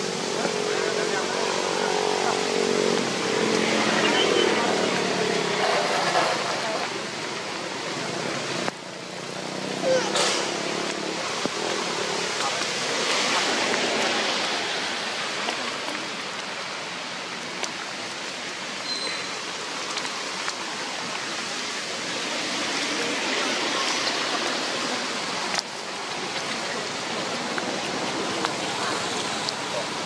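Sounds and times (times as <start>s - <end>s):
water rushing: 0.0s - 30.0s.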